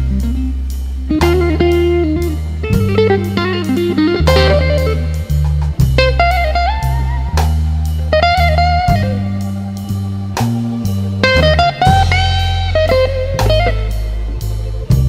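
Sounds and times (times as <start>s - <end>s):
bass line: 0.0s - 15.0s
lead guitar with bent notes: 0.0s - 15.0s
steady drum beat: 0.0s - 15.0s.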